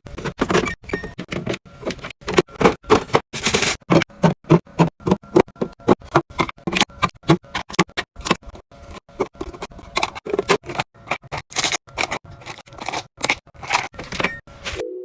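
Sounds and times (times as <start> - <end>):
containers clicking and scraping: 0.1 - 14.4.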